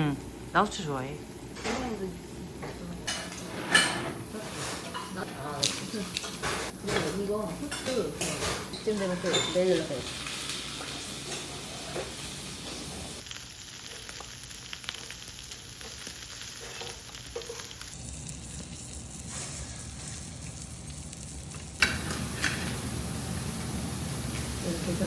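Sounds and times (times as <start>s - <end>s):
food sizzling in a frying pan: 0.1s - 25.0s.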